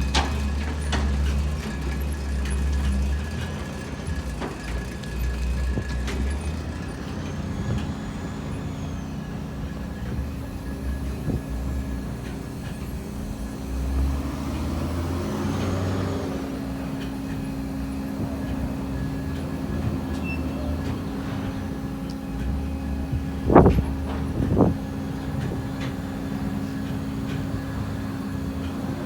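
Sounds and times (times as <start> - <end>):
clanks and knocks: 0.0 - 29.0
sawmill machinery rumbling: 0.0 - 29.0.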